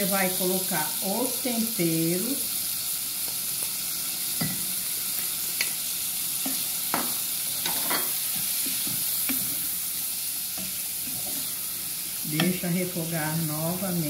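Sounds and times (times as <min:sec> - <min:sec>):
shrimp sizzling in oil: 0:00.0 - 0:14.0.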